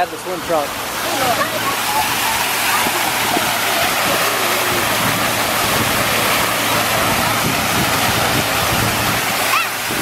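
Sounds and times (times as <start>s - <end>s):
fountain water splattering: 0.0s - 10.0s.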